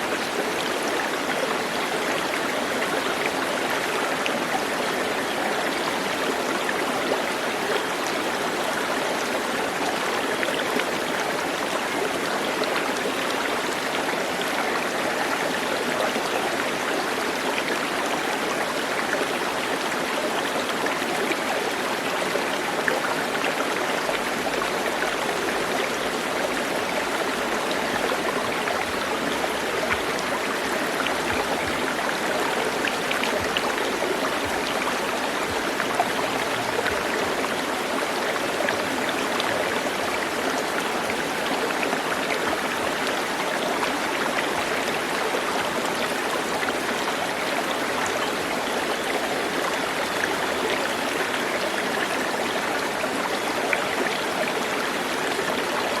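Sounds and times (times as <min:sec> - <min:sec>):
stream of water running: 0:00.0 - 0:56.0.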